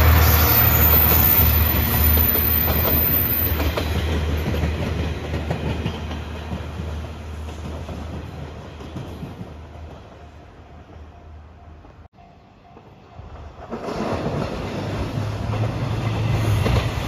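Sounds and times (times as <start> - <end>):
diesel railcar engine hum: 0.0 - 17.0.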